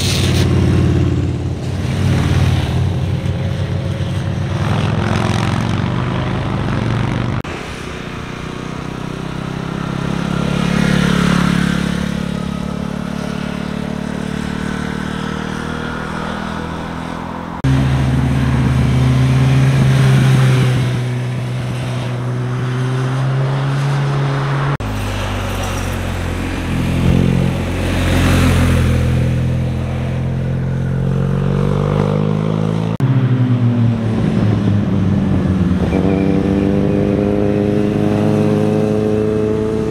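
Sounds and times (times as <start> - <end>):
motorcycle engines passing by: 0.0 - 39.9.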